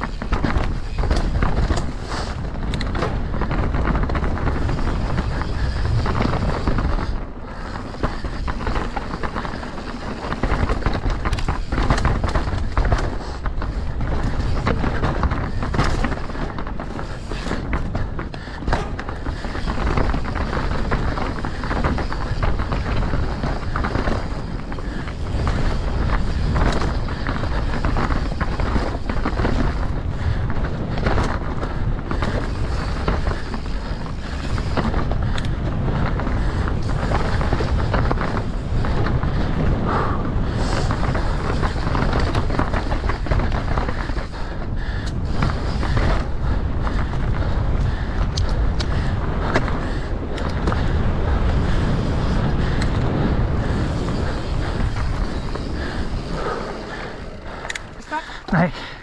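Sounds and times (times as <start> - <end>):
bike rattling and clattering: 0.0 - 59.0
tyres rolling over ground: 0.0 - 59.0
wind on microphone: 0.0 - 59.0.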